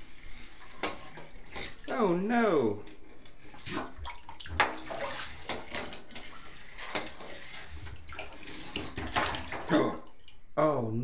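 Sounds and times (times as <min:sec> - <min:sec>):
bath water splashing: 0:00.0 - 0:10.9.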